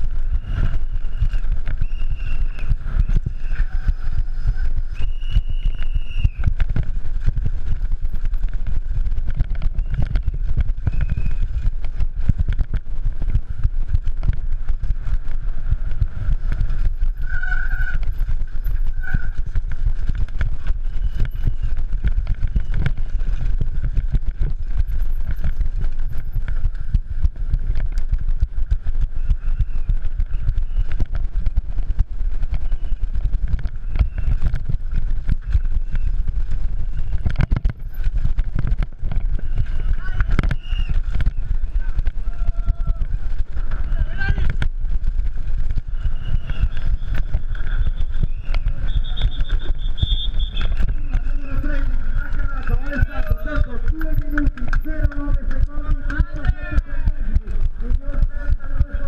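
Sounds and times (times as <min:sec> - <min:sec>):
bike rattling over rough ground: 0:00.0 - 0:59.0
wind rumbling on microphone: 0:00.0 - 0:59.0.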